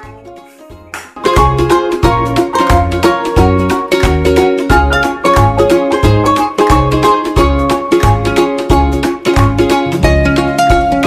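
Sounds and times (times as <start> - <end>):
plucked-string tune: 0.0 - 11.0
steady bass beat: 1.4 - 11.0.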